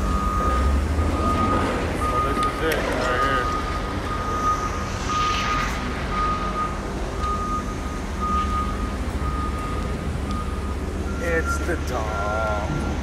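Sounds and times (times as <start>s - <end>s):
truck engine rumble: 0.0s - 13.0s
truck reversing alarm beeping: 0.0s - 13.0s.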